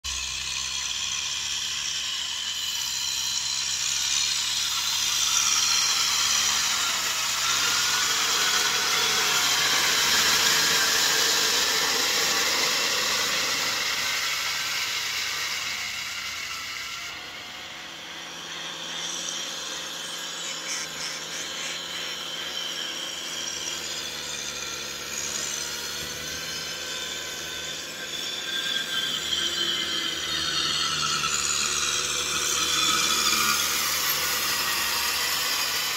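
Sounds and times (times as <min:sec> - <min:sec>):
high wavering whine: 0:00.1 - 0:35.9.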